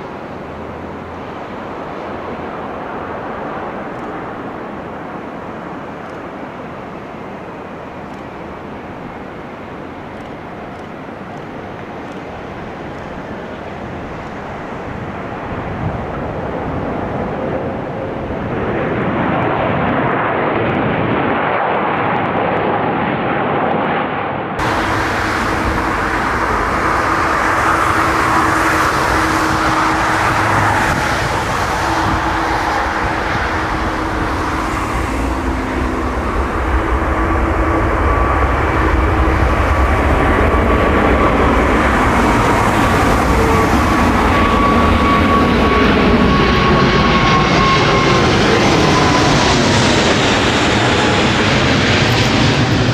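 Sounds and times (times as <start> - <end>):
engine whine: 0.0 - 22.8, 24.4 - 52.9
airplane engines roaring: 0.0 - 52.9.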